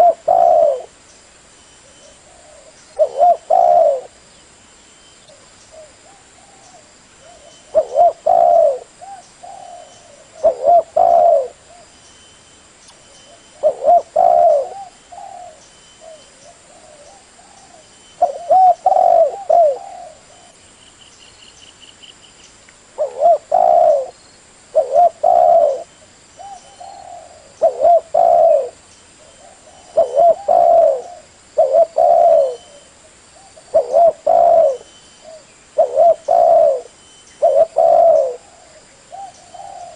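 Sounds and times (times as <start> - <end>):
dove cooing: 0.0 - 1.0, 1.8 - 4.2, 5.3 - 11.9, 13.3 - 20.6, 23.0 - 39.9.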